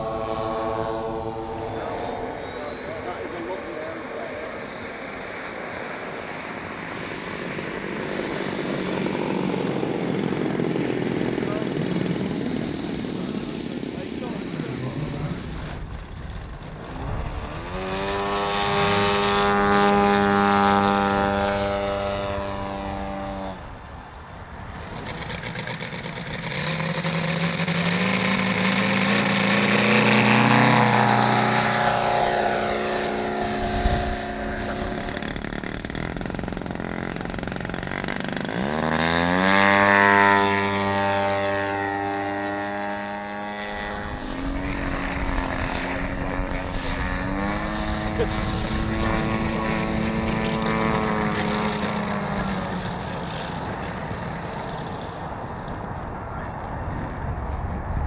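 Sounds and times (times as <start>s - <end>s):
model aircraft propeller engine: 0.0s - 57.9s.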